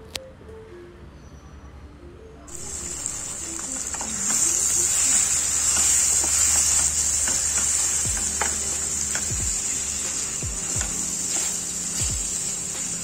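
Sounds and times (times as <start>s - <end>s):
curry sizzling in a metal pan: 2.5s - 13.0s.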